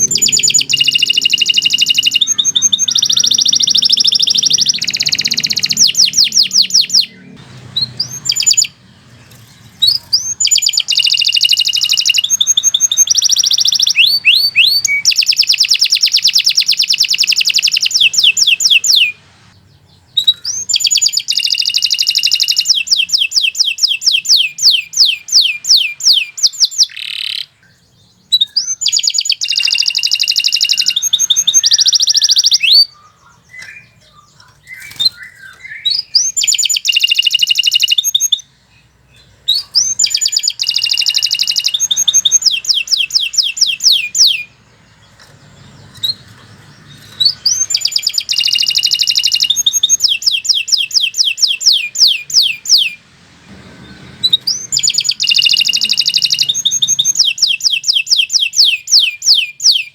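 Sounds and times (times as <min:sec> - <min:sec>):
faint bird chirps: 0:00.0 - 0:53.0, 0:53.6 - 0:59.9
canary singing trills: 0:00.0 - 0:59.9.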